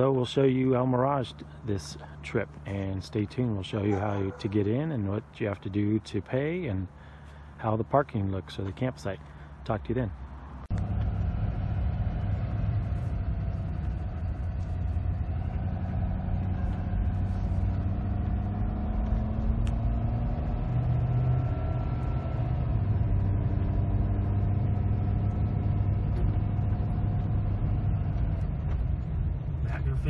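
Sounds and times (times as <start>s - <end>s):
truck engine and road drone: 0.0s - 30.0s.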